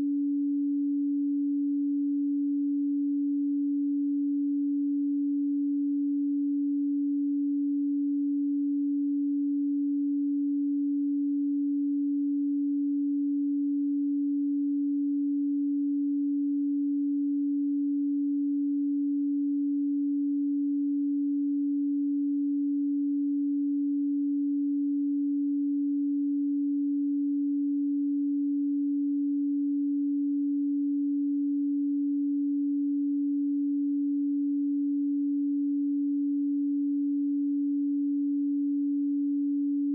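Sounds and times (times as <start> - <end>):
low sine tone: 0.0 - 39.9.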